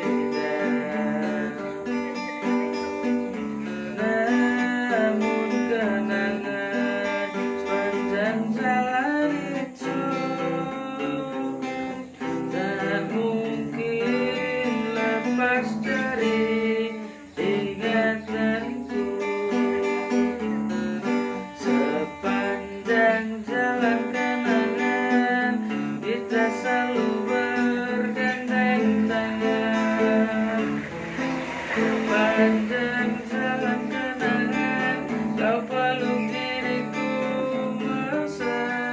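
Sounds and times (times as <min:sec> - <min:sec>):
melodic guitar lead line: 0:00.0 - 0:38.9
strummed acoustic guitar: 0:00.0 - 0:38.9.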